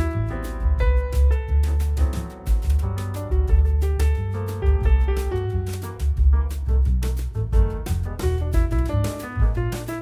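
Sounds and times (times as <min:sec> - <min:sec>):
deep bass line: 0:00.0 - 0:10.0
regular drum beat: 0:00.0 - 0:10.0.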